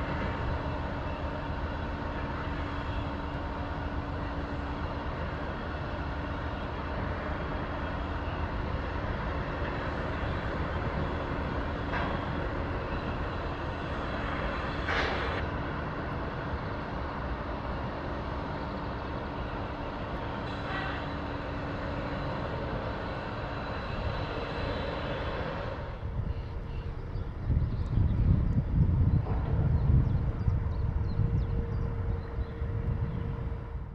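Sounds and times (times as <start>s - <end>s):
ship diesel engines droning: 0.0s - 33.9s.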